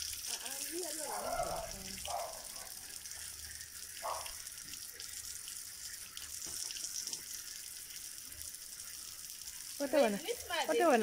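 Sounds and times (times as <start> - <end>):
water trickling into a box: 0.0 - 11.0.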